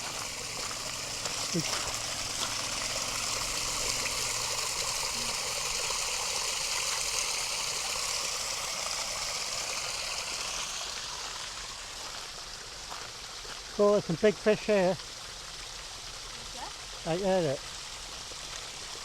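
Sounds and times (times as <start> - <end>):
water rushing and splashing: 0.0 - 19.0.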